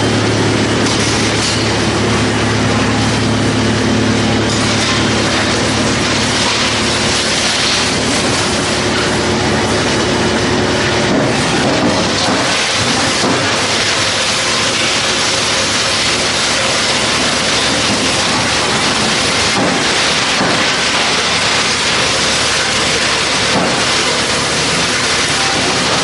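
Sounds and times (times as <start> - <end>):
wood chipper shredding wood: 0.0 - 26.0.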